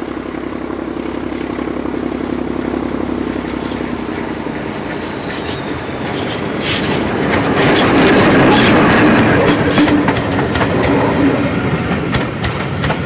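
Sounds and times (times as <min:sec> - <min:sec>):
diesel train engine: 0:00.0 - 0:13.0
wheels clicking over rail joints: 0:00.0 - 0:13.0.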